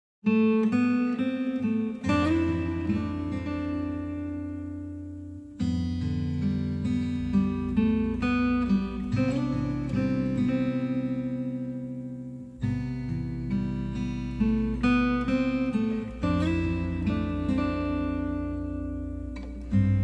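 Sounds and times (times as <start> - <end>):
acoustic guitar music: 0.2 - 20.0.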